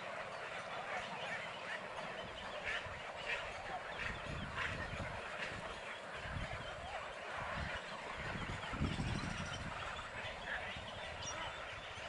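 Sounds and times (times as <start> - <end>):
waterbirds croaking and chattering: 0.0 - 12.0.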